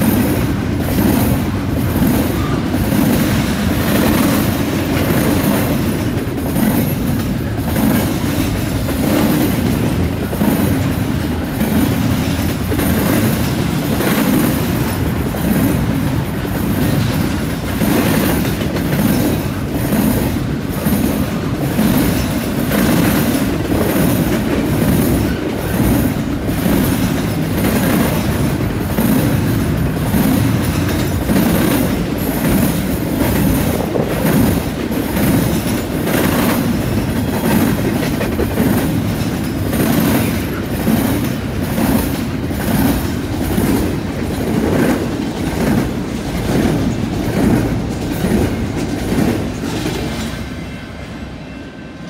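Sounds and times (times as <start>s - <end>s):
train wheels clicking over rails: 0.0s - 50.8s.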